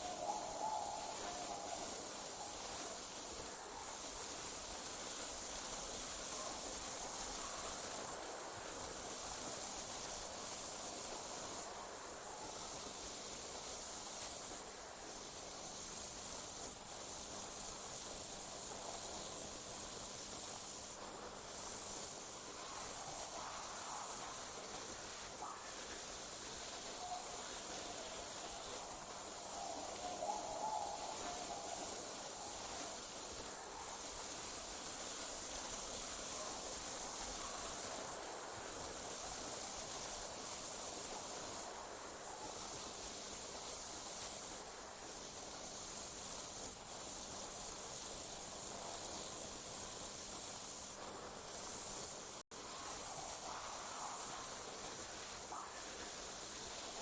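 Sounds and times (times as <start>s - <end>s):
crickets trilling: 0.0s - 11.7s, 12.3s - 57.0s.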